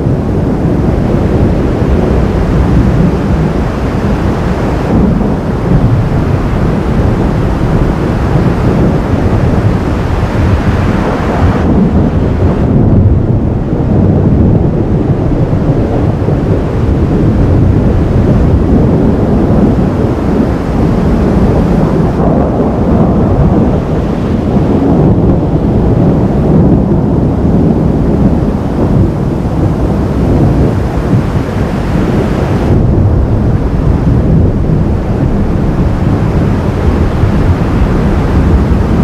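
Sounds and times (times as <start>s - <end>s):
thunder rumbling: 0.0s - 39.0s
wind noise on microphone: 0.0s - 39.0s.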